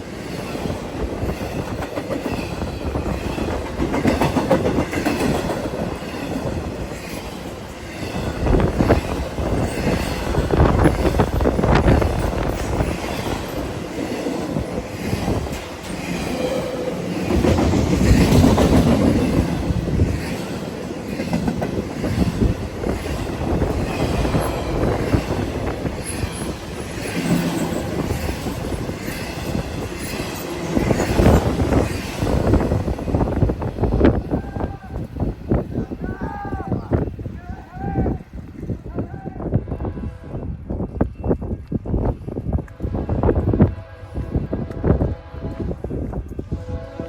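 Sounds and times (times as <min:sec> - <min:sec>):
freight train cars rumbling: 0:00.0 - 0:47.0.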